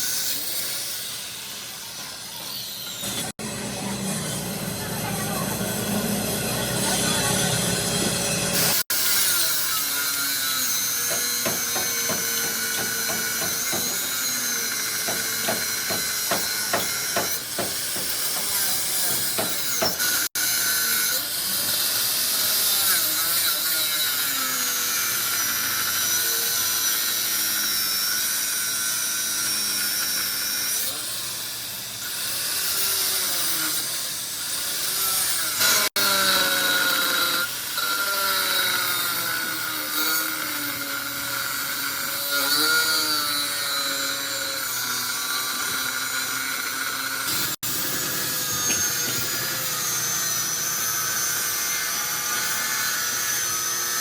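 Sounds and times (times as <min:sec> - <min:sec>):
metal grinding and cutting: 0:00.0 - 0:54.0
power tool high whine: 0:00.0 - 0:54.0.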